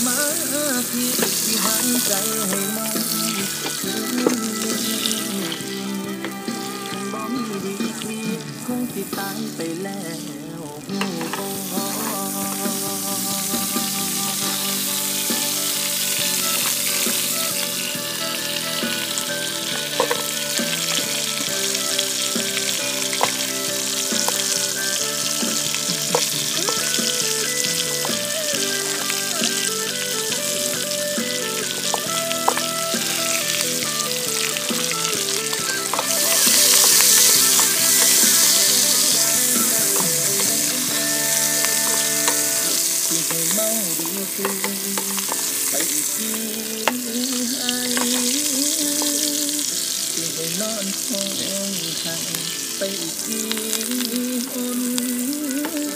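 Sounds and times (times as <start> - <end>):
food sizzling in butter: 0.0 - 55.9
instrumental background song: 0.0 - 55.9.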